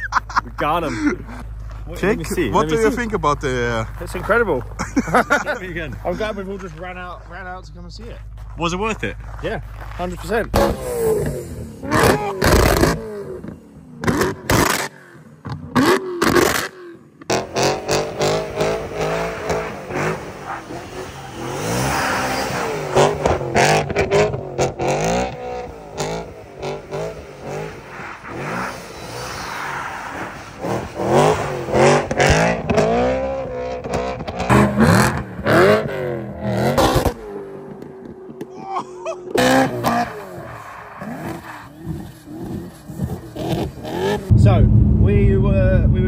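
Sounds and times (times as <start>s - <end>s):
car engine revving: 8.8s - 46.0s.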